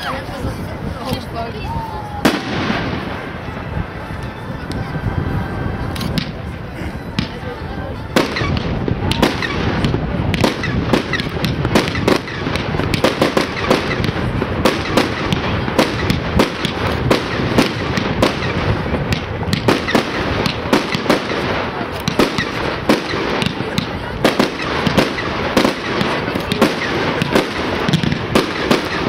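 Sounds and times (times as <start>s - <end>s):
fireworks bursting with sharp bangs: 0.0s - 29.0s.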